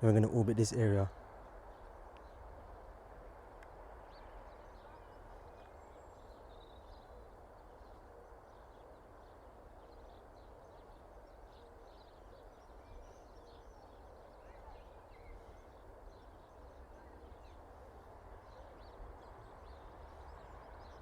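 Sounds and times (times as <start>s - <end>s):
faint bird chirps: 4.0s - 21.0s.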